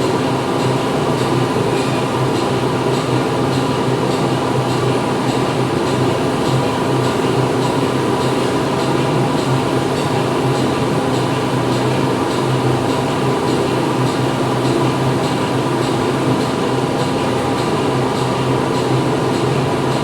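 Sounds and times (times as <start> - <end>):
factory machinery humming: 0.0 - 20.0.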